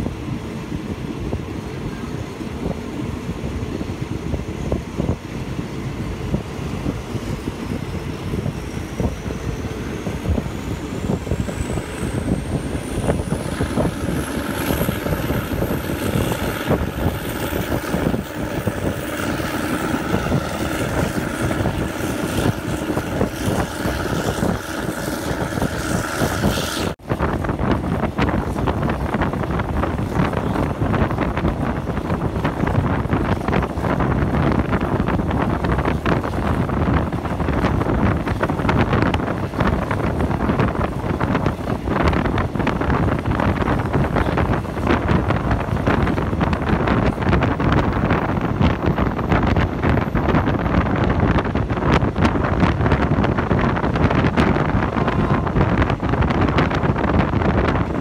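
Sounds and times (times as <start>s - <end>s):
train running noise: 0.0s - 58.0s
wind buffeting microphone: 0.0s - 58.0s.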